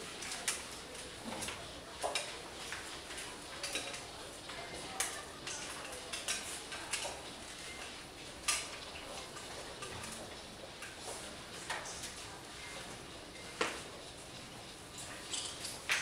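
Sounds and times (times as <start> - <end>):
low room murmur: 0.0 - 16.0.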